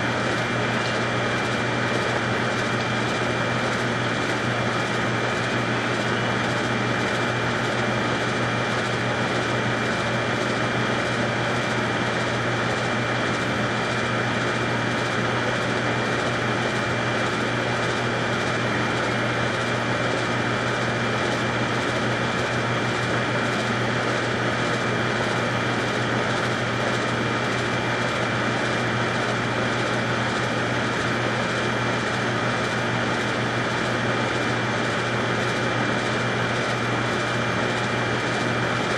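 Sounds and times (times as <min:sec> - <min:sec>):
mechanical hum with high whine: 0:00.0 - 0:38.9.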